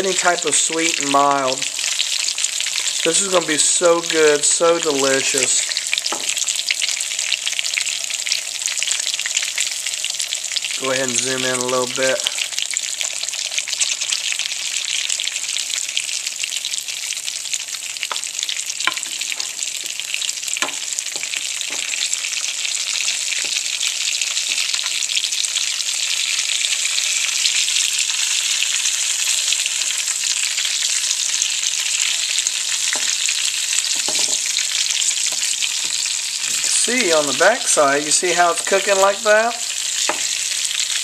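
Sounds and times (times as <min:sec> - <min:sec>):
peppers sizzling in oil: 0:00.0 - 0:41.0.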